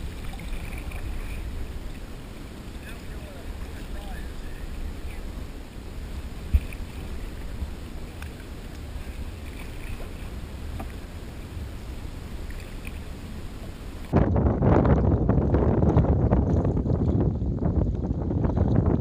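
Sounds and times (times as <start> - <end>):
paddles in water: 0.0 - 19.0
rush of wind and water: 0.0 - 19.0
wind rumble on microphone: 0.0 - 19.0.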